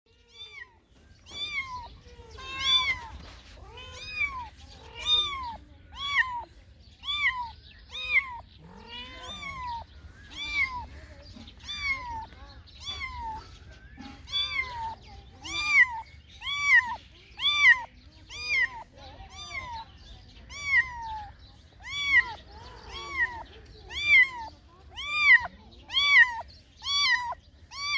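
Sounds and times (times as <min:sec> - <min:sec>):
cat meowing: 0:00.2 - 0:27.9.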